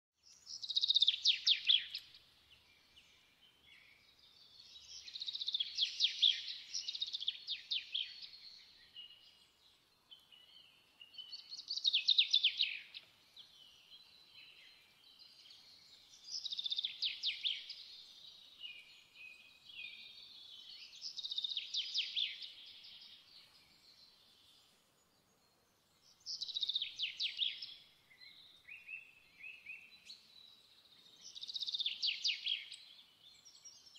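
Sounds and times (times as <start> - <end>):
songbird singing chirps and trills: 0.2 - 33.9.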